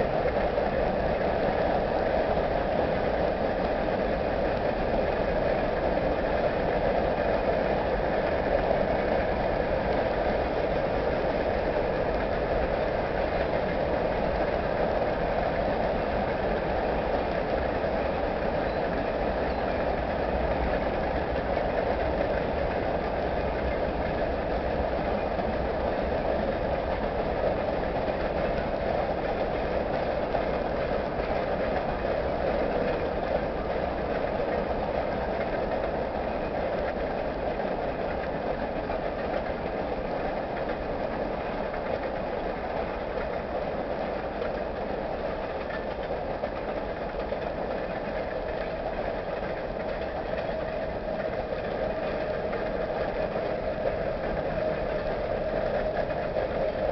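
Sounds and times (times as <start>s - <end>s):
train wheels on rail: 0.0s - 56.9s.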